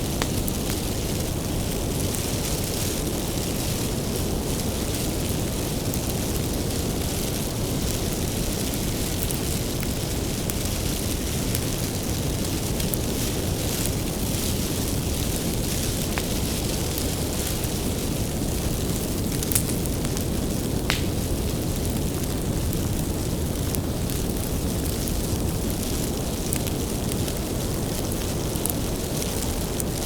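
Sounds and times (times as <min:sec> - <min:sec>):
bonfire rumbling: 0:00.0 - 0:30.0
firewood crackling and popping: 0:00.0 - 0:30.0.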